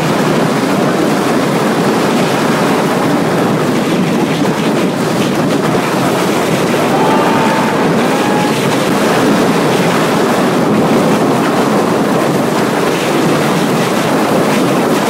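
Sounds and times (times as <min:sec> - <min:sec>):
boat rushing through water: 0:00.0 - 0:15.0
wind buffeting microphone: 0:00.4 - 0:15.0.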